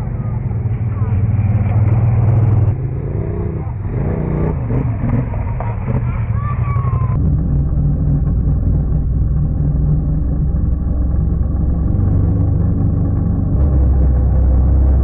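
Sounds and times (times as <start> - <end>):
quad bike engine droning: 0.0 - 15.0.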